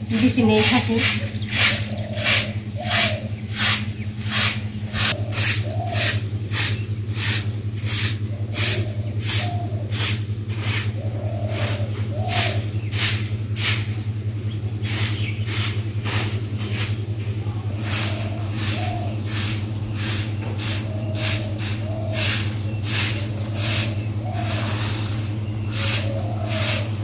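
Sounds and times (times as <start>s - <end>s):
steady low hum: 0.0s - 27.0s
broom sweeping: 0.2s - 14.1s, 14.8s - 27.0s.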